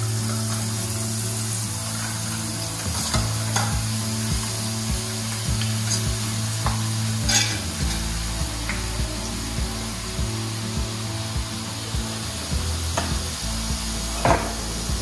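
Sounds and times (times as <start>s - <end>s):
batter sizzling in hot oil: 0.0s - 15.0s
steady low hum: 0.0s - 15.0s.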